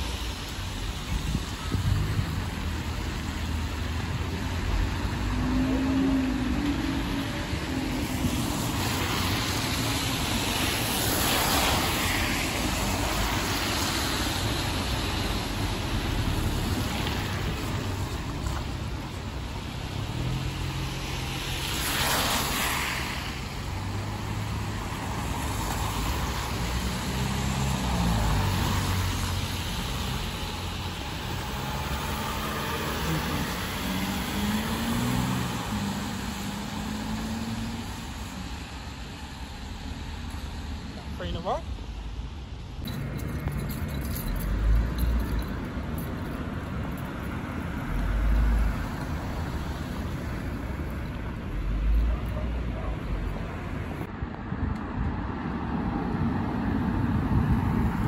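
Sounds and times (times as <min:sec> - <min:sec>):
vehicle engines passing: 0:00.0 - 0:58.0.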